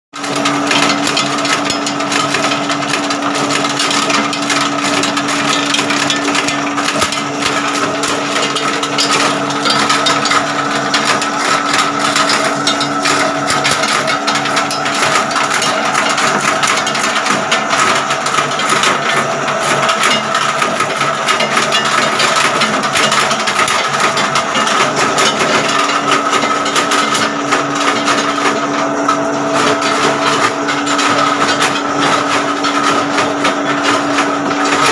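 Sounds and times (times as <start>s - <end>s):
machine humming: 0.2s - 34.9s
nuts rattling in machine: 0.2s - 34.9s.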